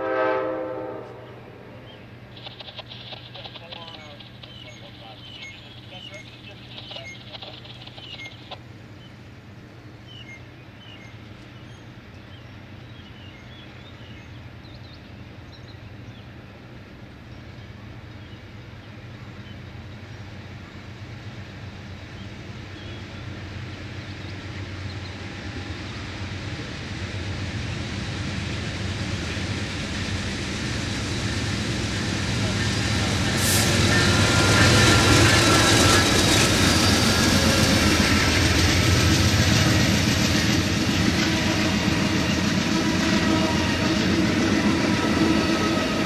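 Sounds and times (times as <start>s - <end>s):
diesel locomotive engines approaching: 0.0s - 46.0s.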